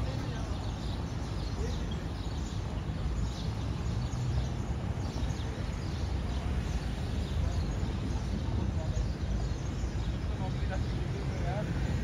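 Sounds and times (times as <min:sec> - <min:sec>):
low street rumble: 0:00.0 - 0:12.0
small birds chirping: 0:00.0 - 0:12.0.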